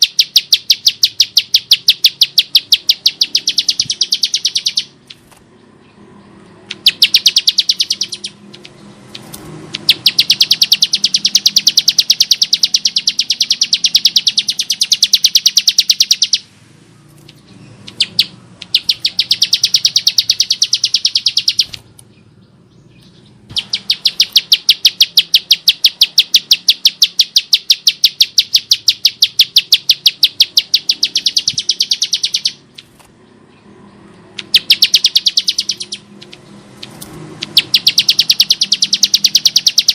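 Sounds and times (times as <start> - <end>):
bird calling harsh high notes: 0.0 - 5.1, 6.1 - 16.5, 17.4 - 21.8, 22.8 - 32.9, 33.9 - 39.9.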